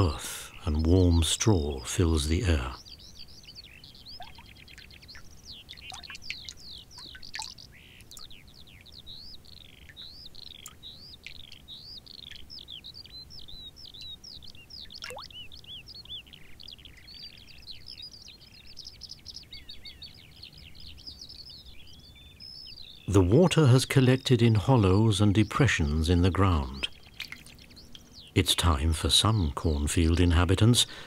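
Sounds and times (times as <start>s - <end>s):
songbirds chirping and warbling: 0.0s - 31.0s.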